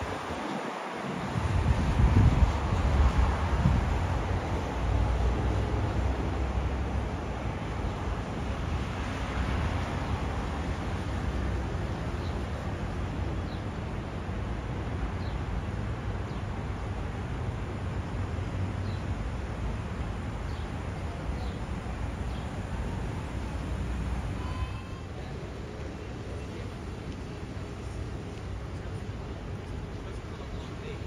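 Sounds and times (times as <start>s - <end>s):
low urban rumble: 1.1s - 31.0s.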